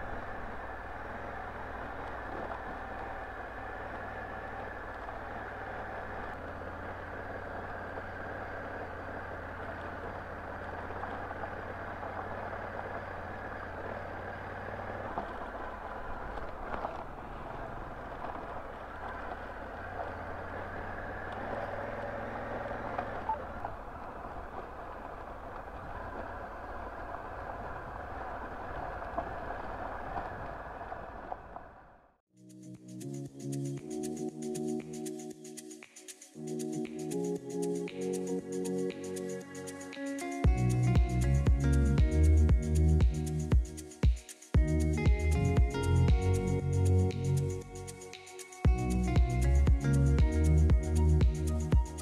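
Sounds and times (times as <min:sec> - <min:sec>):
motorcycle engine running: 0:00.0 - 0:31.2, 0:39.3 - 0:52.0
wind and road noise: 0:00.0 - 0:32.2, 0:32.8 - 0:52.0.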